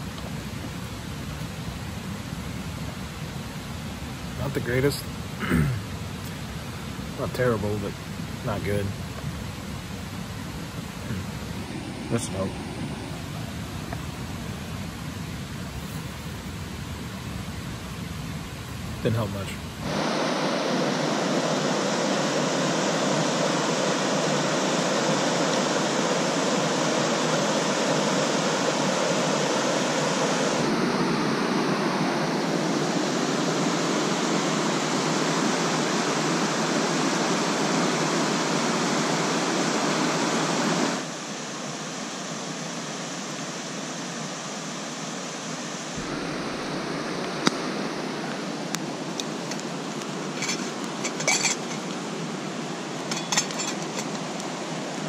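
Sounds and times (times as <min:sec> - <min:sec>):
river rapids rushing over boulders: 0:00.0 - 0:55.0.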